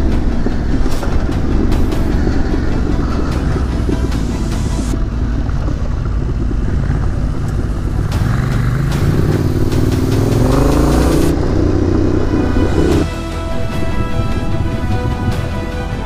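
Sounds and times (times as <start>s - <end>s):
motorcycle engine accelerating: 0.0s - 13.1s.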